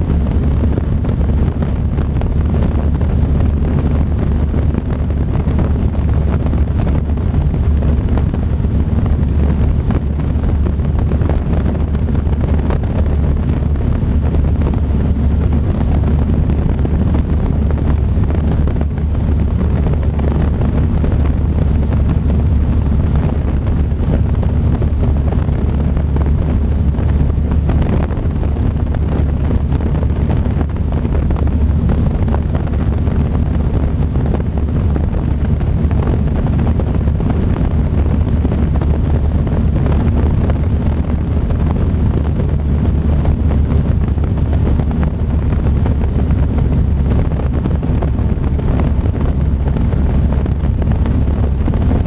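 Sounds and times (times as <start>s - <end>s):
propeller engine droning: 0.0s - 52.0s
wind rushing over microphone: 0.0s - 52.0s.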